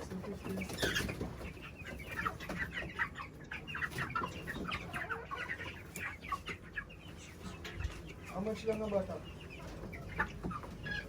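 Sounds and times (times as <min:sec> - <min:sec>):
chicks peeping and clucking: 0:00.0 - 0:11.0.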